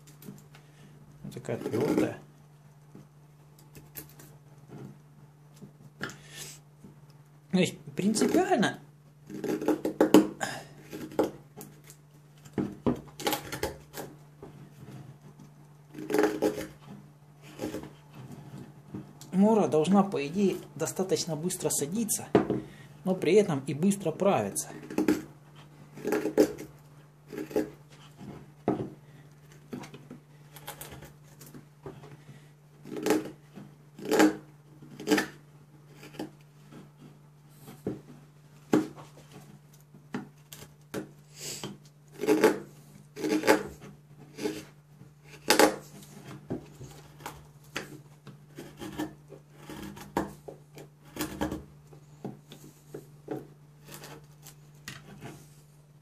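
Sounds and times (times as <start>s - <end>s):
knife scraping wood: 0.0s - 2.3s, 8.0s - 8.6s, 9.2s - 22.2s, 23.9s - 39.7s, 40.3s - 55.7s.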